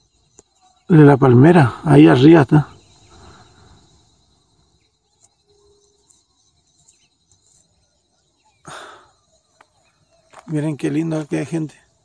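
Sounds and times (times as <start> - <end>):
faint high chirps: 0.0 - 12.0.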